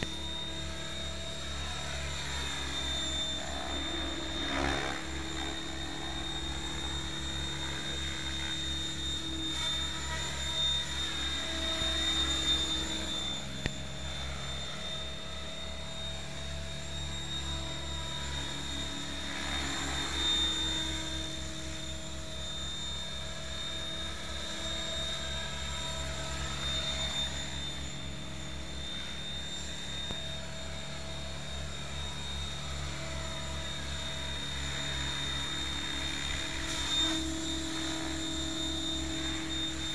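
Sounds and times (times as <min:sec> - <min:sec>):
rc helicopter rotor and motor whine: 0:00.0 - 0:39.9.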